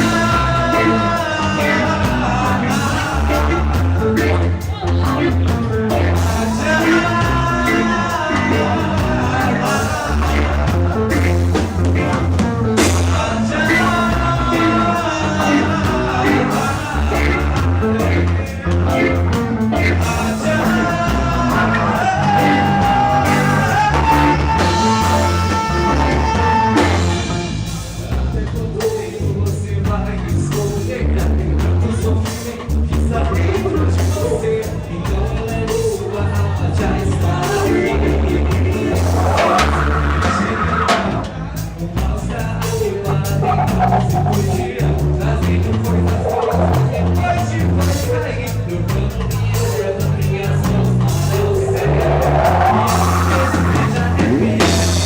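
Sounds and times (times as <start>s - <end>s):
band music with singer: 0.0s - 55.0s
bass and drum beat: 0.0s - 55.0s.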